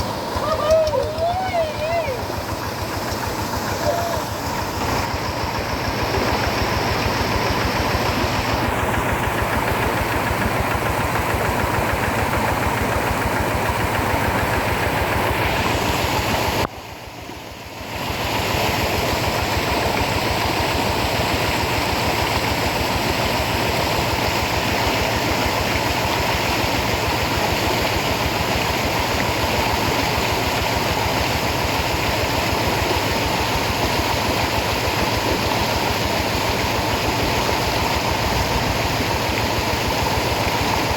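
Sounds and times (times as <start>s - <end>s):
tractor engine running: 0.0s - 17.6s, 19.4s - 40.9s.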